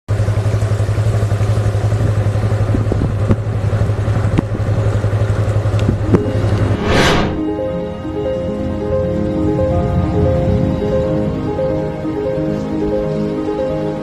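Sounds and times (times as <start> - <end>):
engine humming: 0.1 - 14.0.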